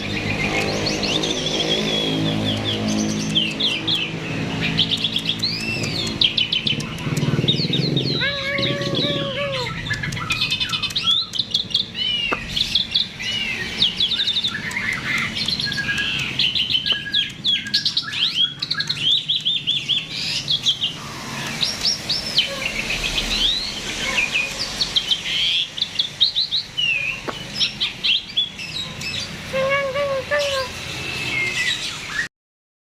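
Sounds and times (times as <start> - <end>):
starling singing: 0.0 - 32.3.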